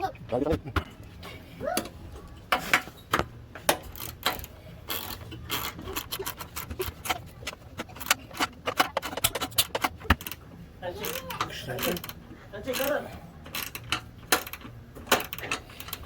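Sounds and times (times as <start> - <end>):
metal tools clicking and knocking: 1.8 - 16.0.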